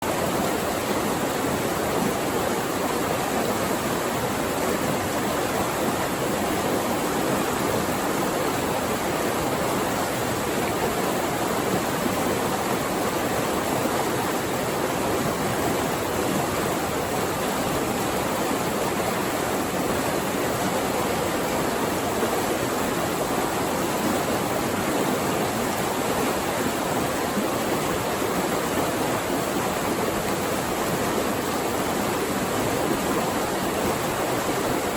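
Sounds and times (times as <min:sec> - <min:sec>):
water rushing over rocks: 0:00.0 - 0:34.9.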